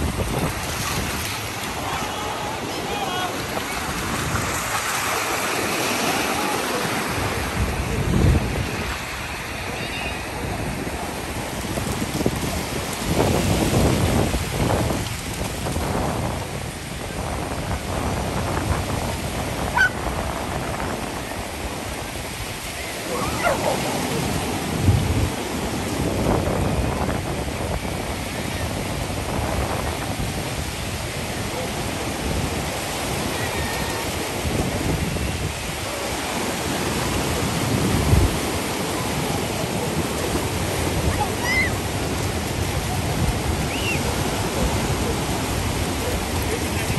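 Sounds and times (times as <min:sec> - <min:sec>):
lake waves washing ashore: 0:00.0 - 0:46.9
wind on microphone: 0:00.0 - 0:46.9.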